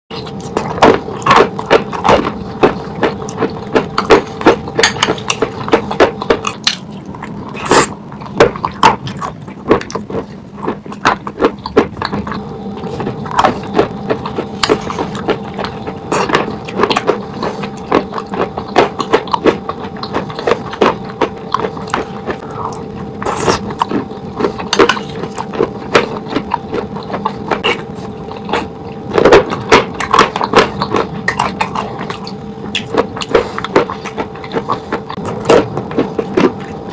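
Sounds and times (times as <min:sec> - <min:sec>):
chewing with wet crunches: 0:00.1 - 0:36.9
faint hum: 0:00.1 - 0:36.9.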